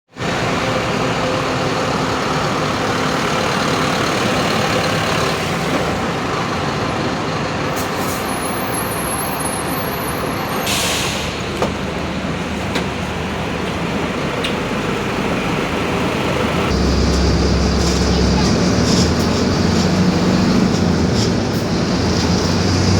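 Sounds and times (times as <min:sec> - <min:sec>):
bus diesel engine running: 0:00.1 - 0:22.9.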